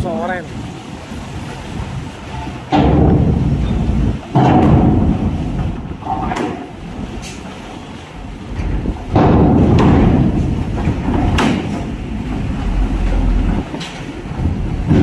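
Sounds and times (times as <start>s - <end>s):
diesel engine rumbling: 2.2s - 15.0s
truck wheels clanking over metal ramp: 2.4s - 15.0s.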